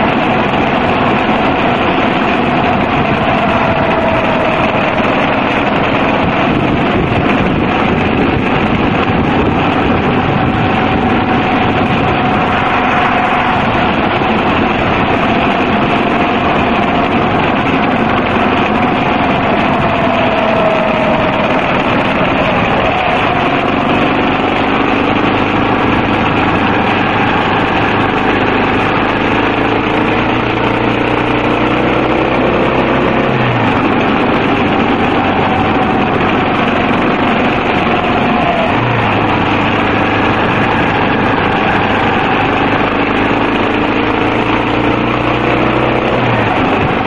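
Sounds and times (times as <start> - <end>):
motorcycle engine running: 0.0 - 47.0
wind noise on microphone: 0.0 - 47.0.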